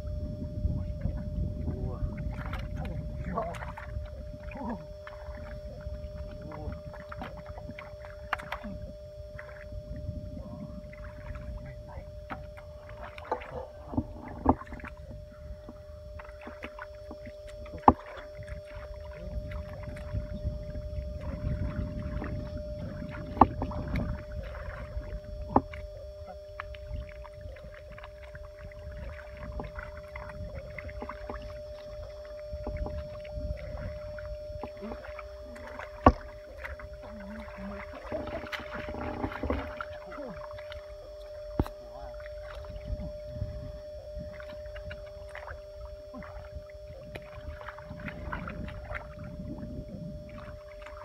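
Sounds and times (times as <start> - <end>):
faint steady hum: 0.0 - 51.0
hands sloshing through muddy water: 2.1 - 51.0.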